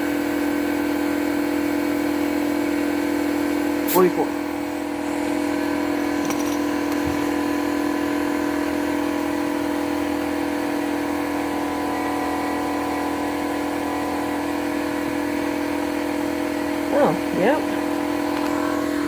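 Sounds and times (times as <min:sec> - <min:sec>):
air compressor running: 0:00.0 - 0:19.0.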